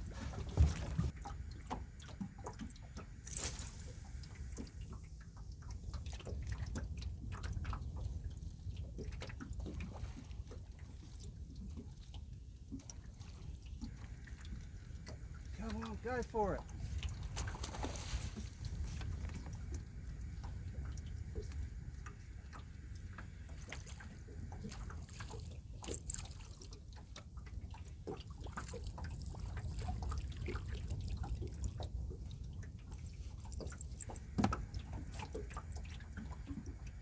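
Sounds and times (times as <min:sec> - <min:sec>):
water lapping against boat hull: 0:00.0 - 0:37.0.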